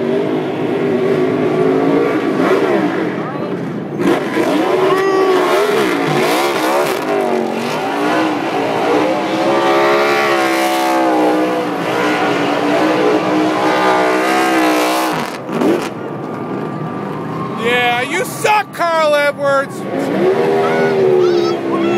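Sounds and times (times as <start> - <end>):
race car engine revving: 0.0 - 17.2, 19.3 - 21.9.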